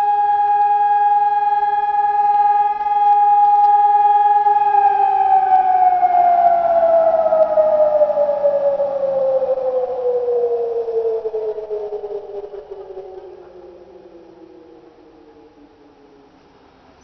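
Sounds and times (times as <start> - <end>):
electronic siren sliding down: 0.0 - 15.9.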